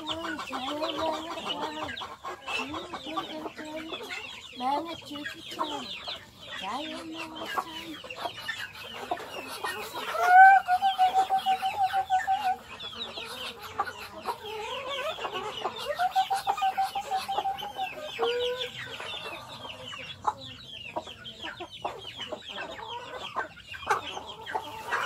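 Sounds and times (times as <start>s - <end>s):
chicks peeping: 0.0s - 25.0s
hens clucking: 0.0s - 25.0s.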